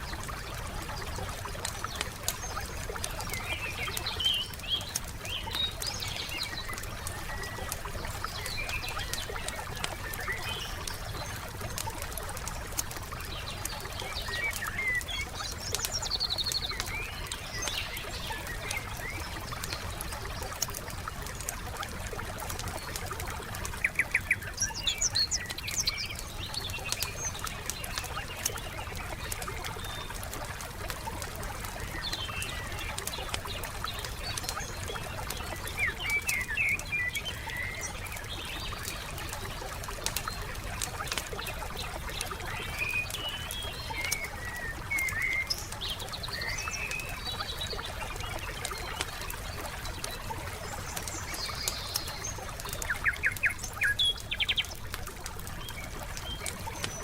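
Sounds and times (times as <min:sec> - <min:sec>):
songbirds chirping: 0:00.0 - 0:57.0
wood fire crackling and popping: 0:00.0 - 0:57.0.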